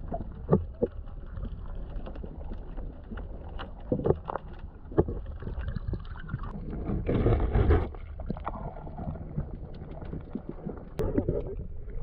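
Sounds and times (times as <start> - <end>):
water around boat: 0.0 - 12.0.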